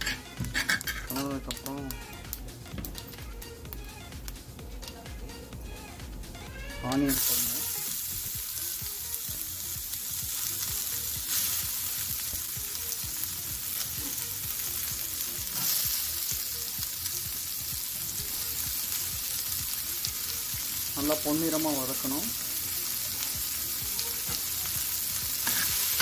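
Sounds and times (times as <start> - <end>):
onion sizzling in hot oil: 0.0 - 2.4, 6.6 - 26.0.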